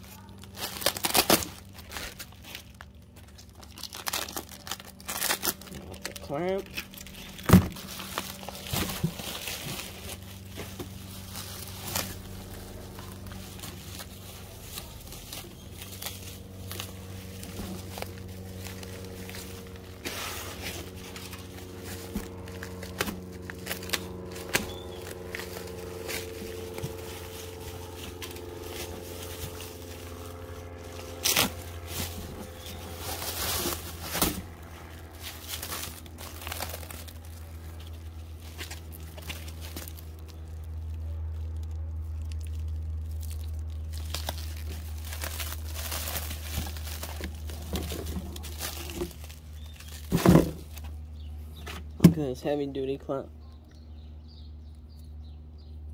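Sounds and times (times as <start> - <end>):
bubble wrap crinkling: 0.0 - 51.2
steady low hum: 0.0 - 55.9.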